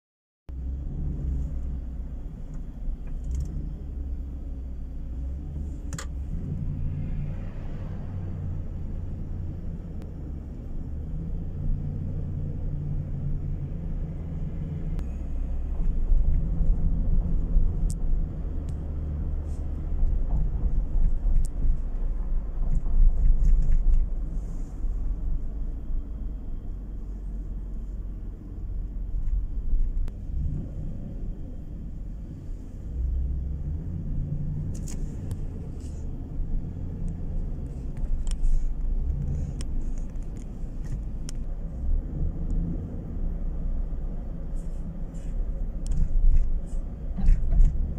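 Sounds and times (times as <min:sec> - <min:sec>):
car interior road rumble: 0:00.5 - 0:47.9.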